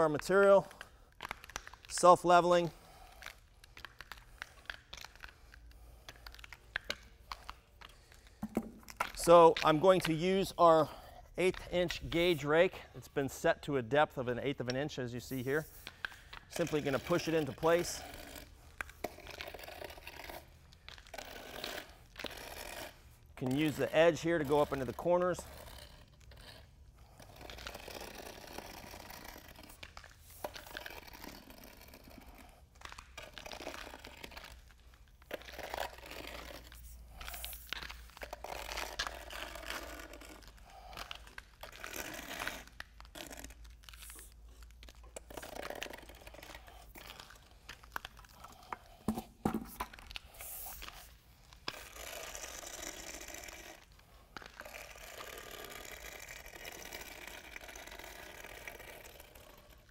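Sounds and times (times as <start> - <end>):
rake scraping wet resin: 0.0 - 59.9.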